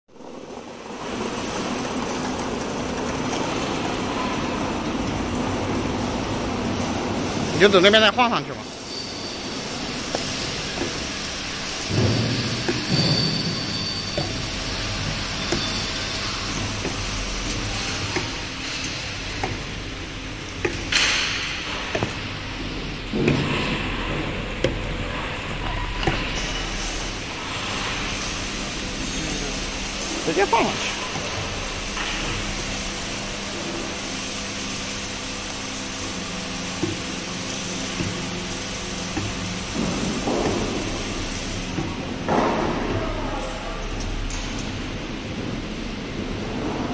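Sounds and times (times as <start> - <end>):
steady machine hum: 0.1 - 46.9.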